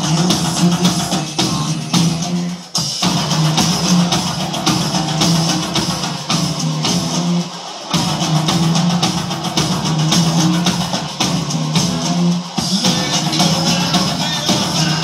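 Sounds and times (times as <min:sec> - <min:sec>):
guitar and drums music: 0:00.0 - 0:15.0.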